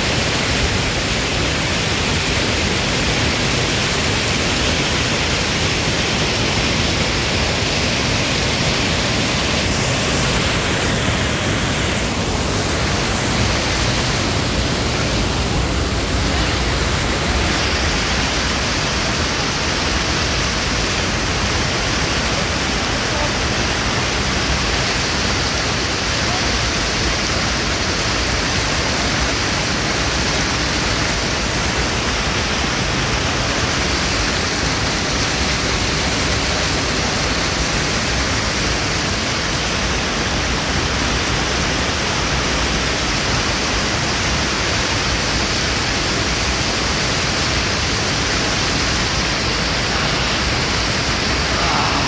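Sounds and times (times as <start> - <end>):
waterfall rushing over boulders: 0.0 - 52.0.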